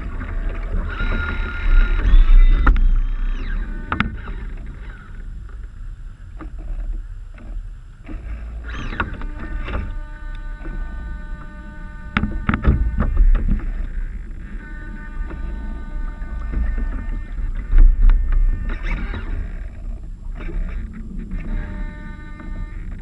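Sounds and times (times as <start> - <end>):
faint steady whine: 0.0 - 23.0
wind rumble on microphone: 0.0 - 23.0.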